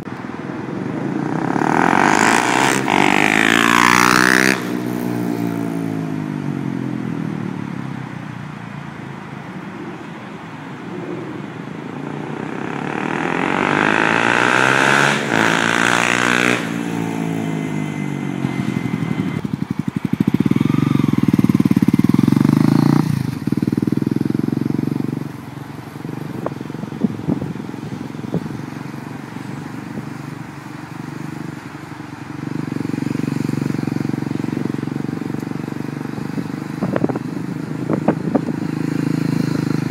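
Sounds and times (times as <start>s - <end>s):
motorcycle engine accelerating: 0.0s - 8.1s, 10.8s - 39.9s.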